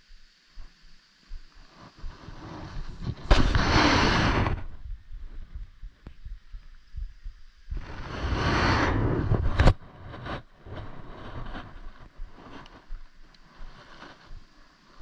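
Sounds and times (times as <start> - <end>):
rushing rumbling microphone noise: 1.3 - 15.0.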